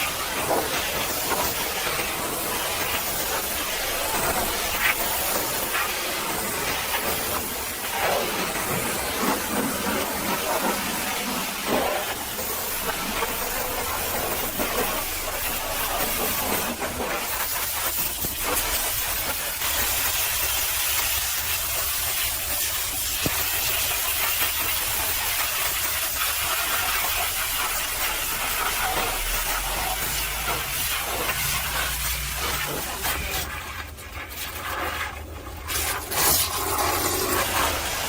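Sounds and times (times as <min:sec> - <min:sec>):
pressure washer spraying water: 0:00.0 - 0:33.7.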